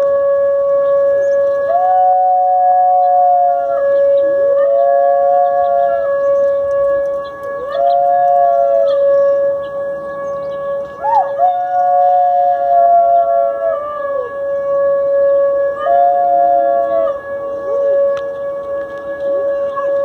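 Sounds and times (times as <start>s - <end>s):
steady sustained tone: 0.0s - 20.0s
dog howling: 1.0s - 20.0s.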